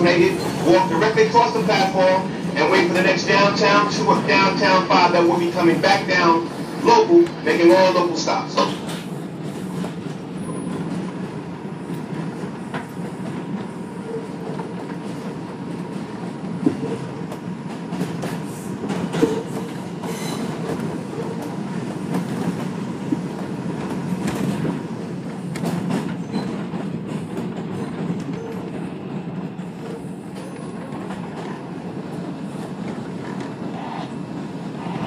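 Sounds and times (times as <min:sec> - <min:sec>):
clickety-clack over rail joints: 0:00.0 - 0:35.0
subway wheels rumbling on rail: 0:00.0 - 0:35.0.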